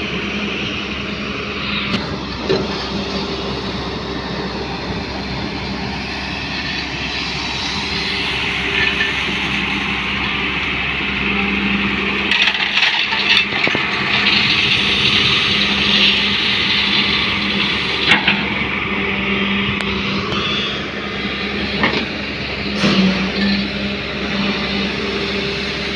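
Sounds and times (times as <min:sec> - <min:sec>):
heavy diesel engine running: 0:00.0 - 0:25.9.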